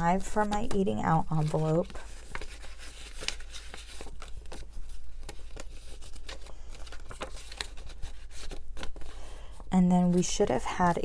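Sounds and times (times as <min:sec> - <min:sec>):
banknotes rustling: 0:00.0 - 0:11.0.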